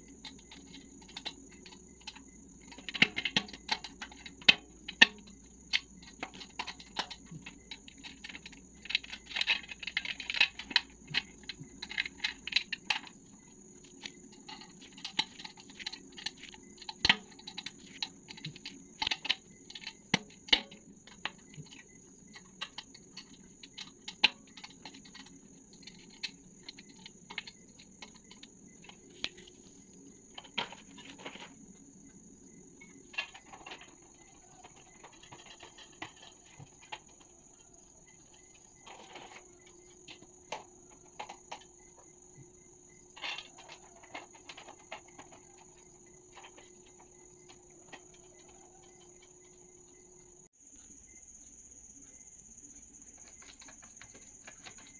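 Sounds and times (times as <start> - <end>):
small metal clicks and scrapes: 0.0 - 50.5, 53.1 - 54.9.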